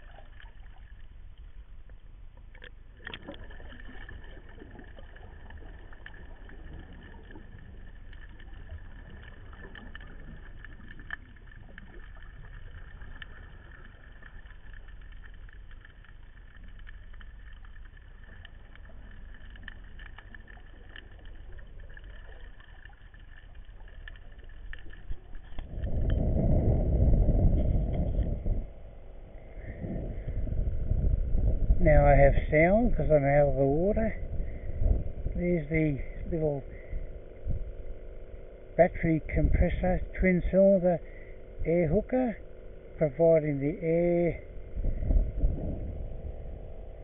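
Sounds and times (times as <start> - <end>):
small ticks: 0.0 - 26.3, 31.0 - 45.2
faint steady whine: 0.0 - 47.0
muffled underwater rumble: 0.0 - 47.0.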